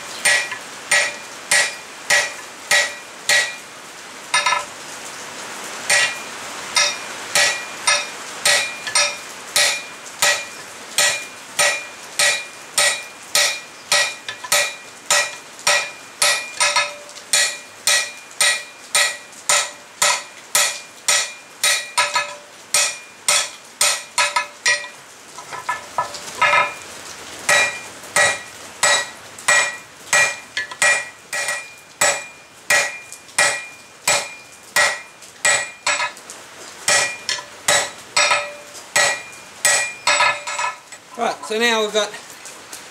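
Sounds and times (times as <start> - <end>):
hammer striking metal on anvil: 0.2 - 3.6, 4.4 - 4.7, 5.9 - 25.0, 25.6 - 26.8, 27.5 - 36.2, 36.9 - 40.9.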